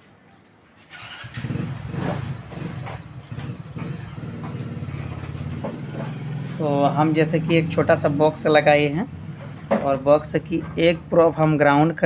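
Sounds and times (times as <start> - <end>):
low growling speaker buzz: 1.5 - 11.5.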